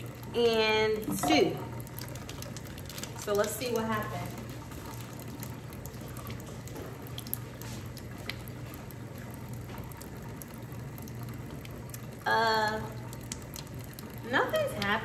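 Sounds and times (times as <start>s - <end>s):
faucet trickling into metal sink: 0.0s - 15.0s.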